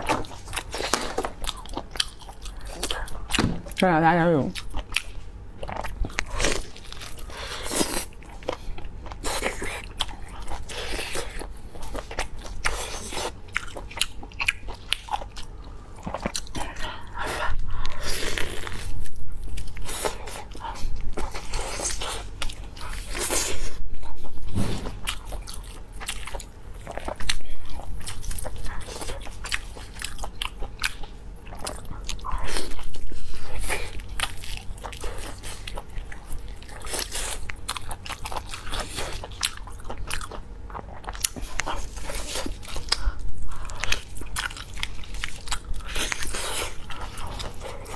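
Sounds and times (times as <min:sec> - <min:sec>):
chewing meat with wet mouth sounds: 0:00.0 - 0:24.4, 0:25.0 - 0:47.9.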